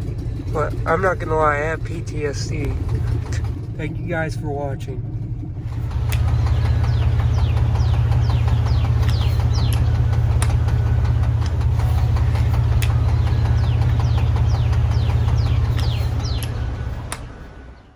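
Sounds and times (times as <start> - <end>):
rattle underneath truck: 0.0 - 17.4
truck engine idling: 0.0 - 17.9.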